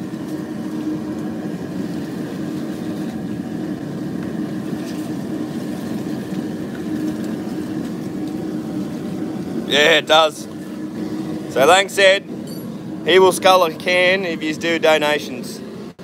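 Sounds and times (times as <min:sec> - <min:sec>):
gas burner roaring: 0:00.0 - 0:16.0.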